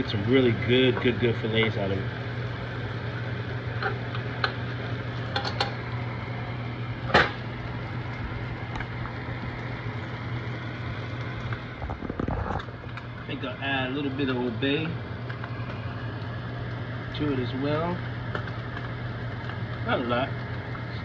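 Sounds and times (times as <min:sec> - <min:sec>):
steady low hum: 0:00.0 - 0:21.0
fish sizzling in frying pan: 0:00.4 - 0:21.0.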